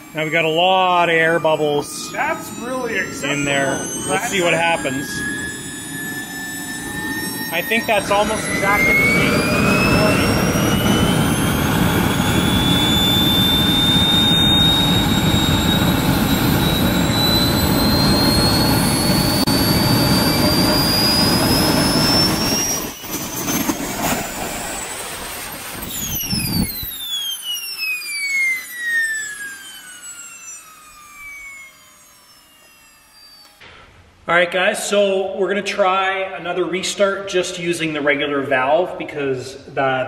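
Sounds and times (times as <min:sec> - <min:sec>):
jet turbine roaring: 0:00.0 - 0:40.0
turbine high whine: 0:00.0 - 0:40.0.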